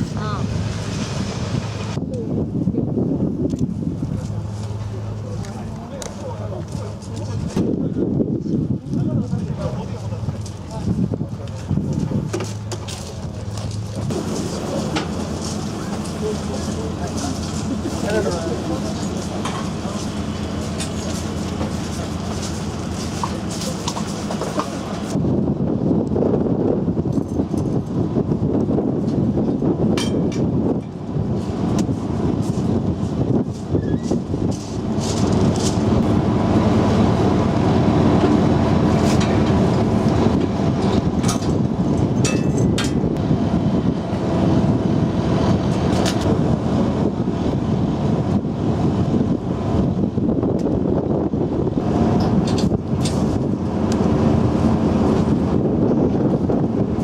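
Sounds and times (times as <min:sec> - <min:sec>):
heavy vehicle engine drone: 0:00.0 - 0:57.0
rough low rumble: 0:00.0 - 0:57.0.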